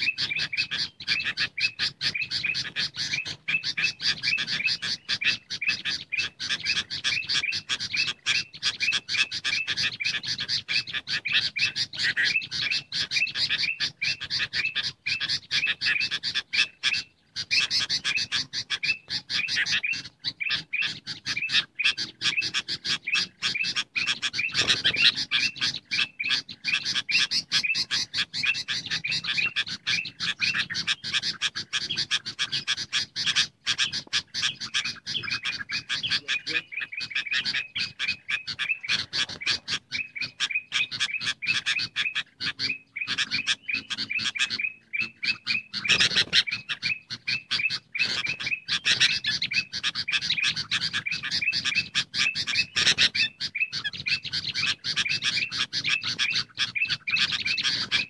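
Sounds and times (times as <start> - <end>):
bulbuls calling: 0.0 - 58.0
rapid high bird chirps: 0.0 - 58.0.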